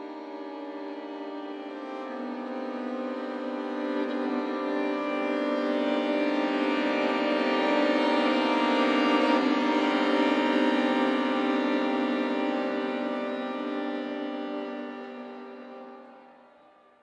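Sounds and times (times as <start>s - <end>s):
string quartet sustained chord: 0.0s - 17.0s.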